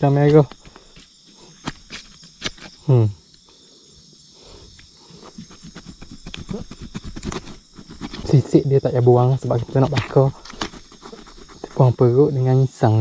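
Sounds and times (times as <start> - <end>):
insects chirping at night: 0.0 - 13.0.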